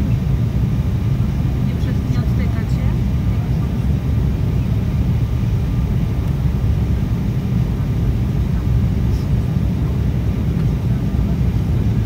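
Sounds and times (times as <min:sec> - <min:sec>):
jet engines and airflow rumble: 0:00.0 - 0:12.0.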